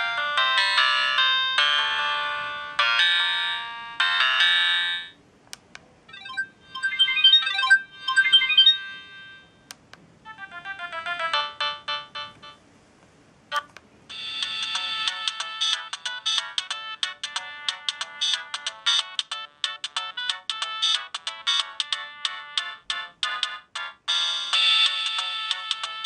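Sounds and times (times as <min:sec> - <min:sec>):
mobile phone ringtone melodies: 0:00.0 - 0:05.2, 0:06.1 - 0:09.7, 0:10.3 - 0:12.6, 0:13.5 - 0:26.0.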